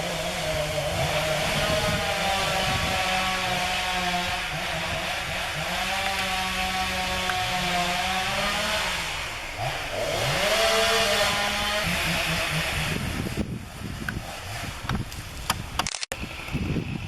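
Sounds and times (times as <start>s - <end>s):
chainsaw cutting trees: 0.0s - 17.0s.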